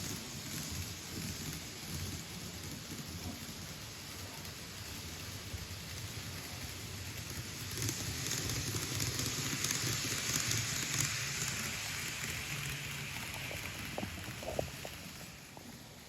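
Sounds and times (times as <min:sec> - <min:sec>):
model train hissing rumble: 0:00.0 - 0:16.0.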